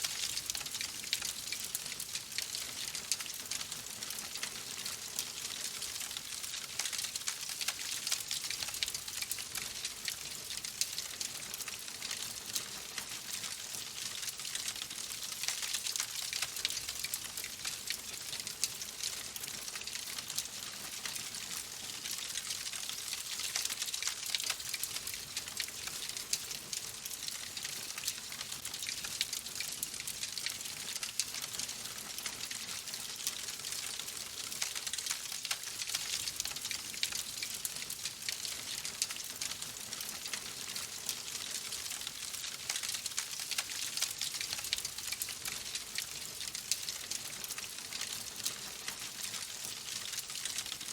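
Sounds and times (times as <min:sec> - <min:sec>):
fireplace fire crackling: 0:00.0 - 0:29.8, 0:30.4 - 0:50.9.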